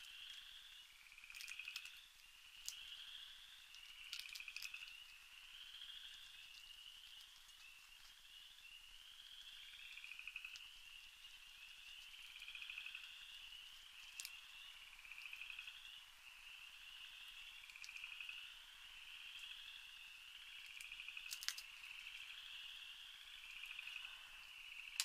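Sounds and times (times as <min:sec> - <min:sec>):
animals trilling at night: 0:00.0 - 0:25.0.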